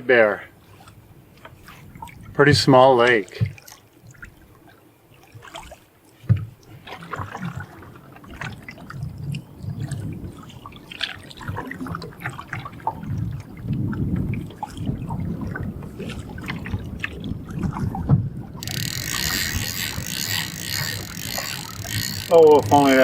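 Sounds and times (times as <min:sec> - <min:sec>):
water splashing from paddle strokes: 0:00.0 - 0:23.0
paddle knocking hull: 0:00.6 - 0:23.0.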